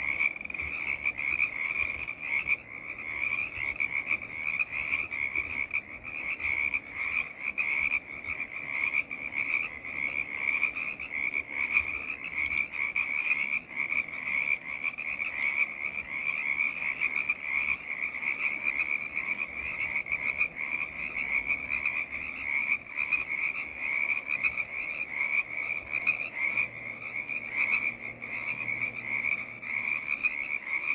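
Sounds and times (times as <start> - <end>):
frogs calling in chorus: 0.0 - 30.9.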